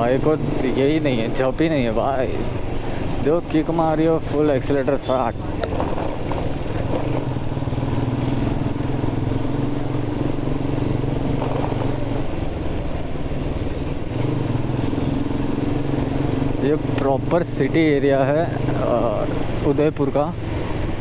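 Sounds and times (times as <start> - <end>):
motorcycle engine running: 4.0 - 21.0.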